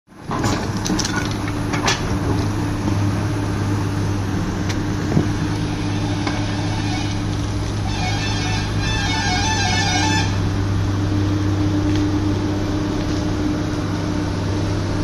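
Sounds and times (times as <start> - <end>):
excavator diesel engine running: 0.1 - 15.0.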